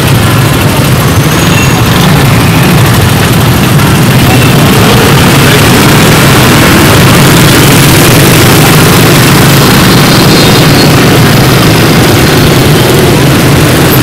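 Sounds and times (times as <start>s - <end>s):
motorcycle engine running: 0.0s - 14.0s
scooters and motorbikes idling: 0.0s - 14.0s.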